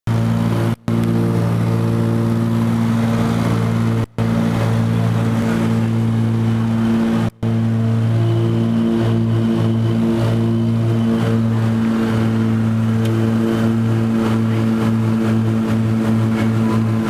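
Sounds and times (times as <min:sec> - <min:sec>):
propeller engines droning: 0:00.1 - 0:17.0.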